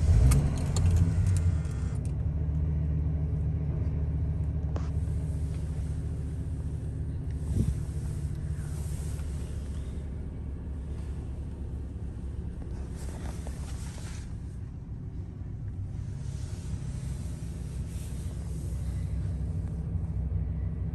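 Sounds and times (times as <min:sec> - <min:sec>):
van engine idling: 0:00.0 - 0:20.9.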